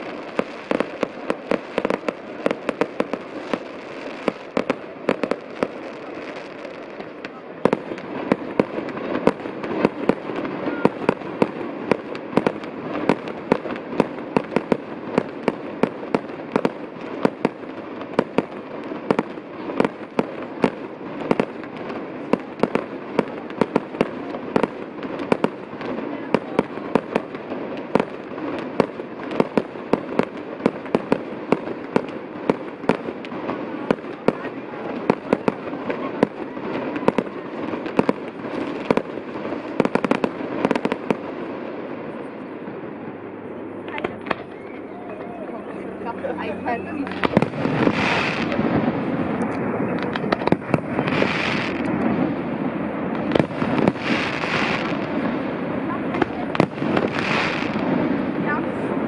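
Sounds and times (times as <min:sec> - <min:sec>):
firework fountains hissing: 0:00.0 - 0:59.0
fireworks bangs: 0:00.0 - 0:59.0.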